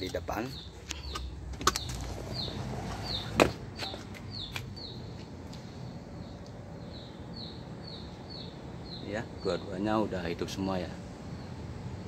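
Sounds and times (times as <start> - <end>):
small bird chirping: 0.0 - 9.9.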